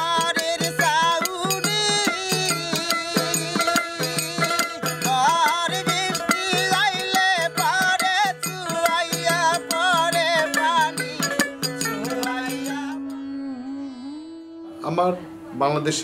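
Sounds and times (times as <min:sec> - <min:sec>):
hand drum beat: 0:00.0 - 0:13.0
plucked lute: 0:00.0 - 0:13.3
man singing with vibrato: 0:00.0 - 0:15.4.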